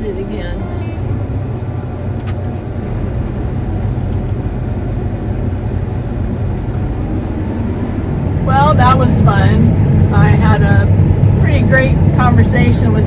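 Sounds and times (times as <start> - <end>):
combine harvester humming: 0.0 - 13.0.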